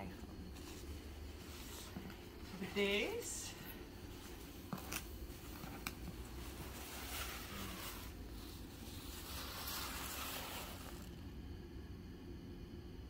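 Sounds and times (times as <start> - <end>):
tissue paper rustling: 0.5 - 11.2.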